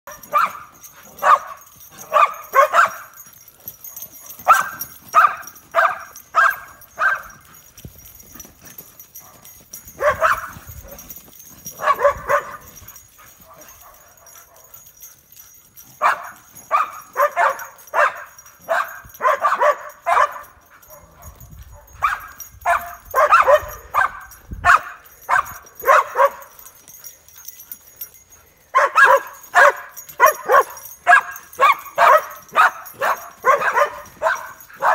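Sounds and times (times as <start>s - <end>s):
dog barking: 0.0s - 7.5s, 9.2s - 14.8s, 16.0s - 26.6s, 28.7s - 34.9s.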